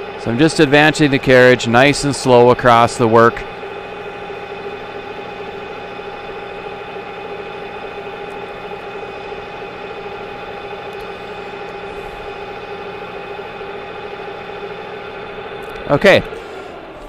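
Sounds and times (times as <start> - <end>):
lathe tool cutting steel: 0.0 - 17.0
metal lathe humming: 0.0 - 17.0.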